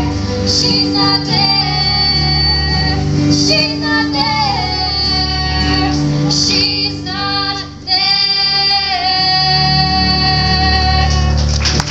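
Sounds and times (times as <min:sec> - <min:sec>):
girls singing a duet: 0:00.0 - 0:11.4
guitar accompaniment: 0:00.0 - 0:11.9.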